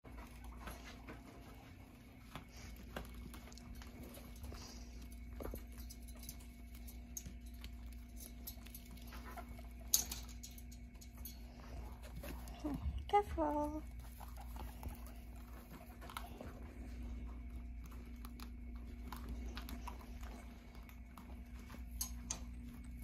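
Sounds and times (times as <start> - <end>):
guinea pigs pattering and rustling: 0.0 - 23.0
steady low hum: 0.0 - 23.0.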